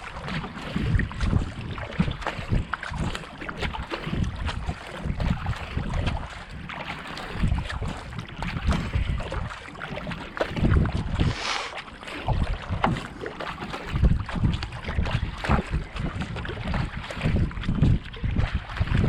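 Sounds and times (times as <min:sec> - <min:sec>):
paddle strokes in water: 0:00.0 - 0:19.0
wind buffeting microphone: 0:00.0 - 0:19.0.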